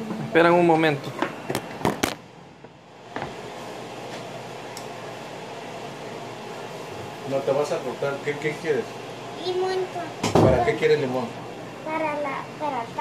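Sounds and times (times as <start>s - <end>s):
muffled room hum: 0.0s - 13.0s.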